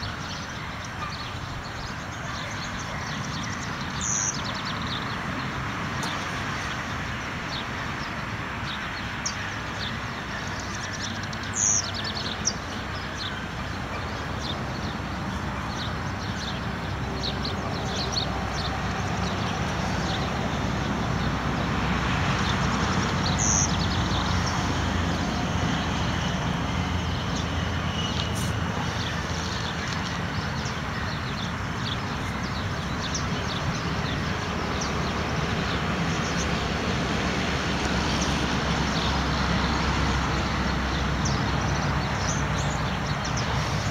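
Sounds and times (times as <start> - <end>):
outdoor rumble and hiss: 0.0 - 43.9.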